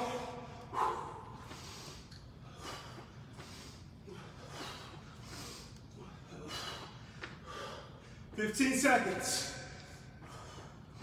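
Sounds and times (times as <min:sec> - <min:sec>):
man breathing hard: 0:00.0 - 0:08.4, 0:09.8 - 0:11.0.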